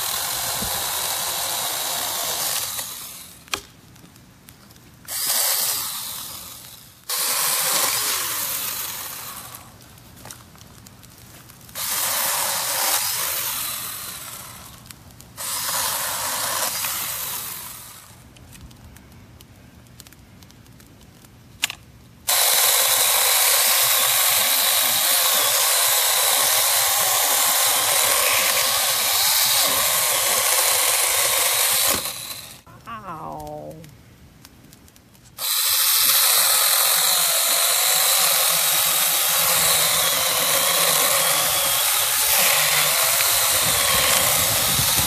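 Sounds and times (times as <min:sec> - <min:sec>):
chainsaw cutting dry wood: 0:00.0 - 0:03.7, 0:05.1 - 0:10.4, 0:11.1 - 0:18.2, 0:22.3 - 0:32.7, 0:35.4 - 0:45.0.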